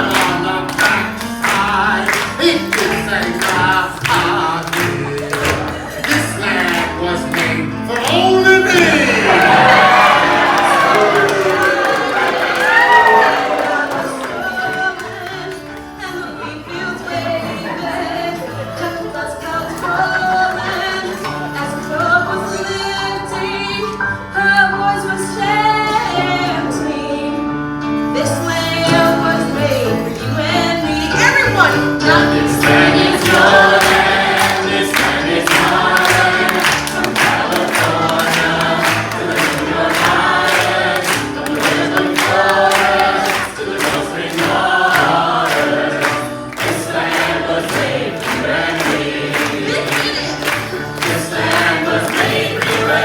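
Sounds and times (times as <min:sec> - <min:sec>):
voices singing together: 0:00.0 - 0:27.5, 0:31.8 - 0:53.0
instrumental backing music: 0:00.0 - 0:53.0.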